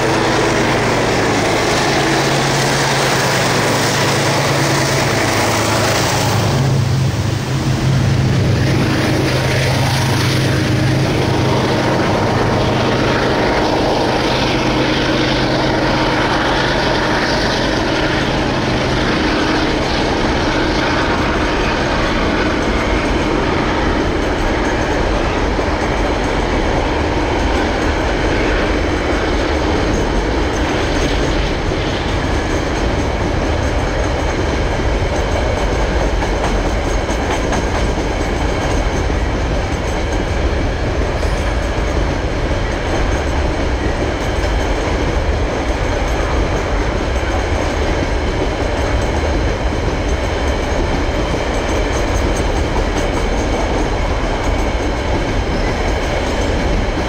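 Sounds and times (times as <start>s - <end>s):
diesel locomotive engine drone: 0.0s - 57.0s
train wagons rumbling on rails: 0.0s - 57.0s.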